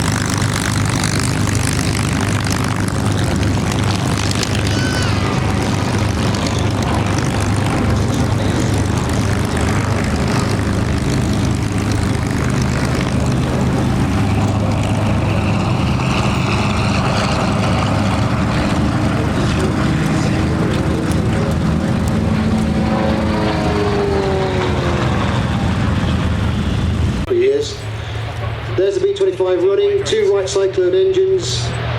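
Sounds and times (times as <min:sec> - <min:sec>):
falling whine: 0:00.0 - 0:31.9
propeller plane piston engines: 0:00.0 - 0:31.9.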